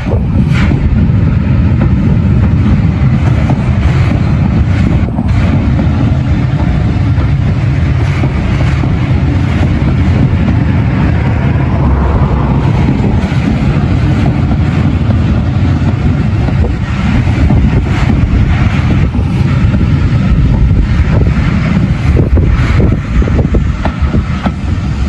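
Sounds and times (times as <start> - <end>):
passenger train rumbling on track: 0.0 - 25.0.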